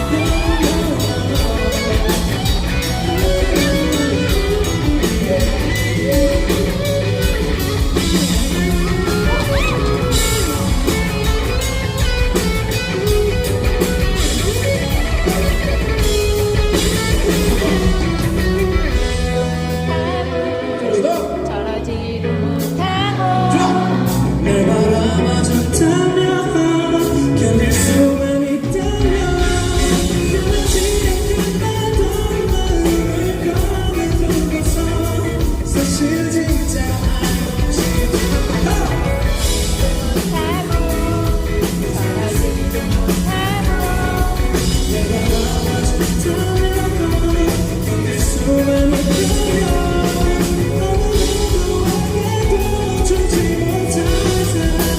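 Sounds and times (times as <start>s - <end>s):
bass: 0.0s - 54.9s
drums: 0.0s - 54.9s
live band playing: 0.0s - 54.9s
person singing: 0.0s - 54.9s.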